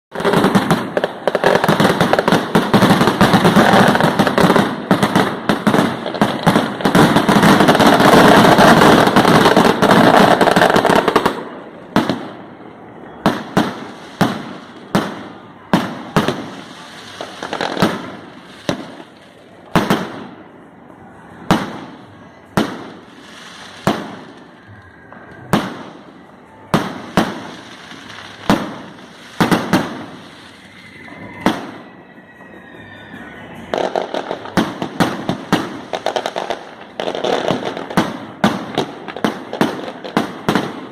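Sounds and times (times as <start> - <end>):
fireworks bangs with echo: 0.1 - 20.6, 21.2 - 32.0, 33.4 - 40.9
firecrackers crackling: 0.1 - 40.9.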